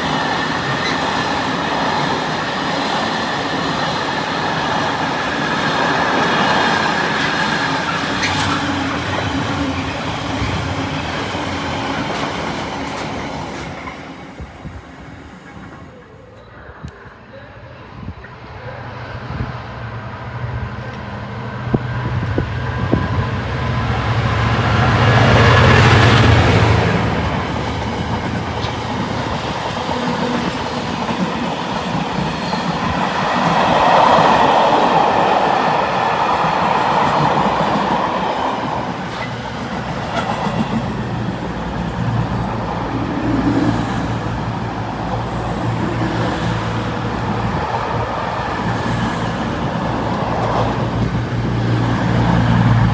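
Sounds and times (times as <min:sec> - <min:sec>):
train wheels clattering on rails: 0:00.0 - 0:16.0, 0:20.8 - 0:52.9
train low hum: 0:00.0 - 0:52.9.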